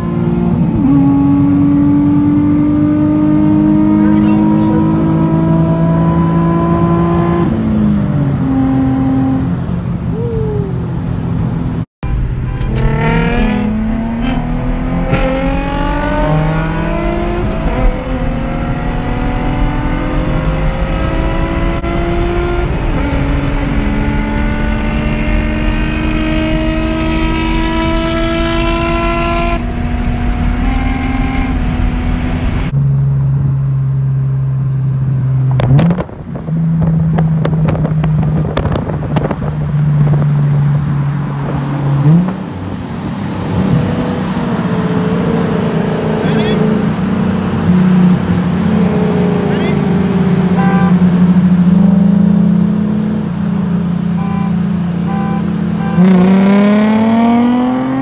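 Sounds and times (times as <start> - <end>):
car engine revving through upshifts: 0.0 - 10.3, 10.9 - 32.8, 35.4 - 58.0.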